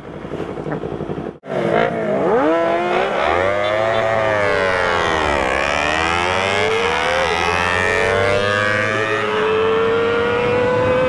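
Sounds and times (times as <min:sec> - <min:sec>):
motorcycle engine revving high: 0:00.7 - 0:11.0.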